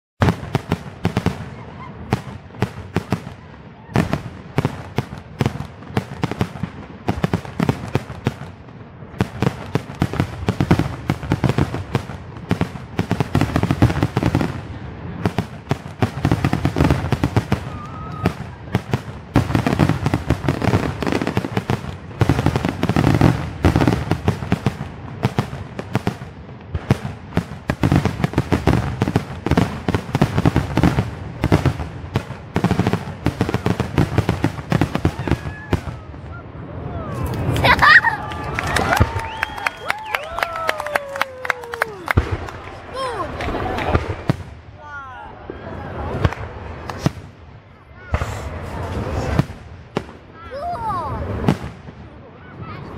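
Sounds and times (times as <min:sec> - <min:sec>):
fireworks bursts and crackling: 0:00.2 - 0:52.9.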